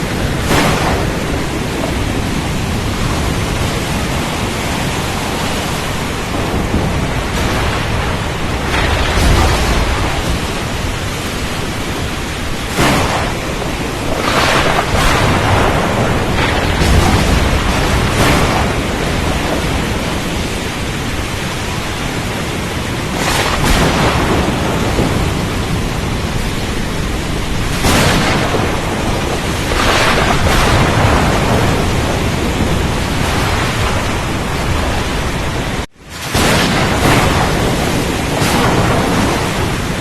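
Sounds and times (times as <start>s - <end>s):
heavy rain: 0.0s - 40.0s
rough water: 0.0s - 40.0s
wind: 0.0s - 40.0s.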